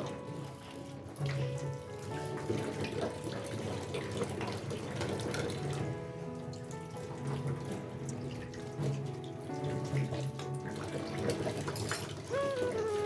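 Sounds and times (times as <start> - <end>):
background music: 0.0 - 13.0
dishes being rinsed: 0.0 - 13.0.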